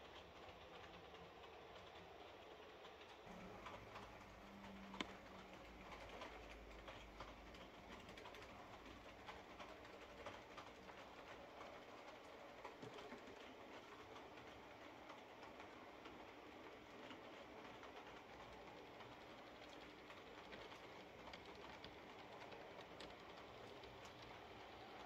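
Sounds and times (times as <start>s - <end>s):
model train rattling on track: 0.0s - 25.0s.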